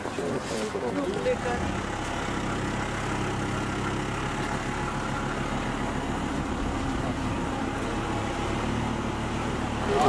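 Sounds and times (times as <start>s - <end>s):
car engine running: 0.9s - 10.0s.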